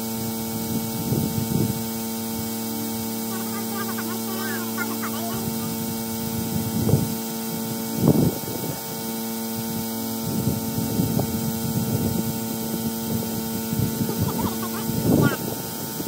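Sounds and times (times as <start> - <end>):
air compressor humming: 0.0 - 16.0.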